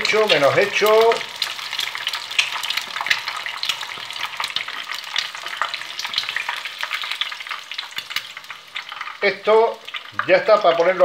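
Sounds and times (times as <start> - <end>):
metal skimmer stirring in pan: 0.0 - 10.3
oil sizzling and popping: 0.0 - 11.0.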